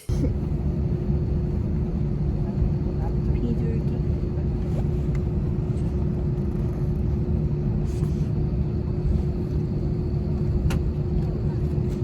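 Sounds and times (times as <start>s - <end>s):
constant hum: 0.0s - 12.0s
vehicle rumble: 0.0s - 12.0s.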